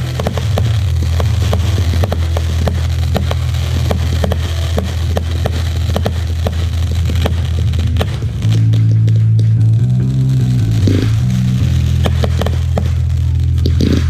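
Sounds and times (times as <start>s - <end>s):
fireworks crackling and popping: 0.0s - 14.0s
low rumble: 0.0s - 14.0s.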